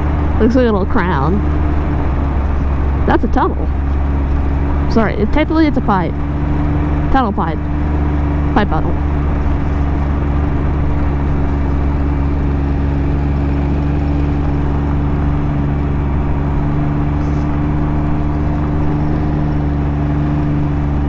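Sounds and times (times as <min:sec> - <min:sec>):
engine droning at cruising speed: 0:00.0 - 0:21.0
wind and road noise: 0:00.0 - 0:21.0.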